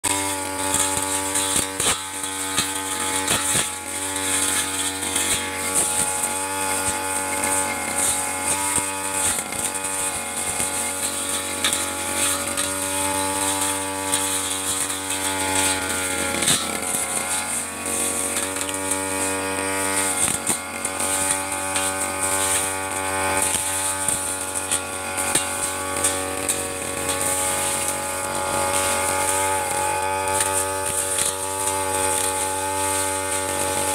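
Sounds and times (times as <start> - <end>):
blade cutting through grass: 0.0 - 33.9
brush cutter engine at high revs: 0.0 - 33.9.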